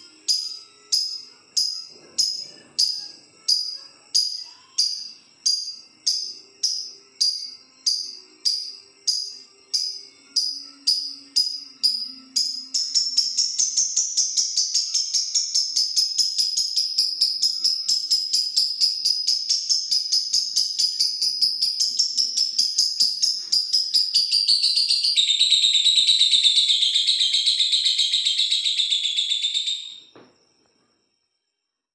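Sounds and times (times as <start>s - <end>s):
lovebird shrill chirps: 0.0s - 30.2s.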